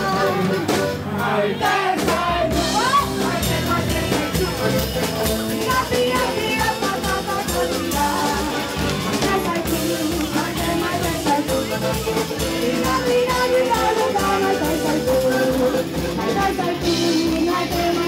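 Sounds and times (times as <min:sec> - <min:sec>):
person singing: 0:00.0 - 0:00.8, 0:01.6 - 0:18.0
live band playing upbeat music: 0:00.0 - 0:18.0
steady drum beat: 0:00.0 - 0:18.0.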